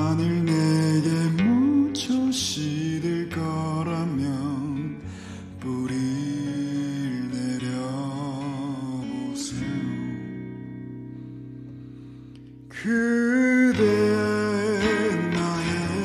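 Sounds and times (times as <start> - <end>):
man singing: 0.0 - 10.4, 12.7 - 16.0
strummed acoustic guitar: 0.0 - 16.0.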